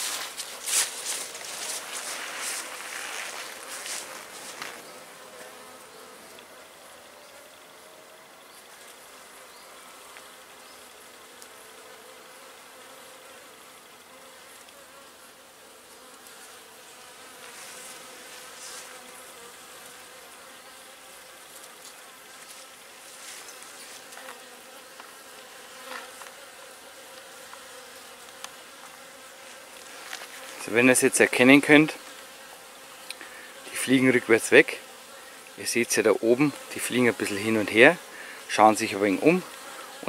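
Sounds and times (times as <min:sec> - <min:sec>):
bees buzzing: 0:00.0 - 0:40.0.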